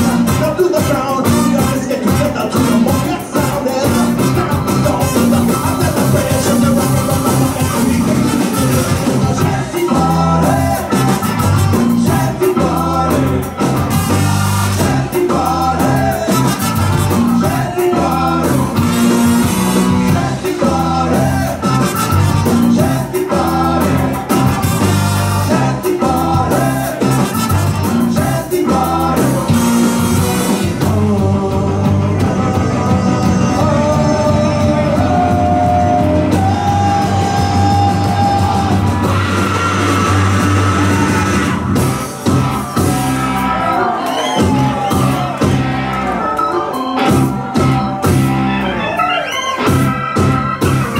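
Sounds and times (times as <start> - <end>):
trumpet: 0.0 - 9.6, 10.4 - 30.8, 35.0 - 50.9
saxophone: 0.0 - 30.9, 32.2 - 50.9
person singing: 0.0 - 41.6
drums: 0.0 - 50.9
electric guitar: 0.0 - 50.9
keyboard: 0.0 - 50.9.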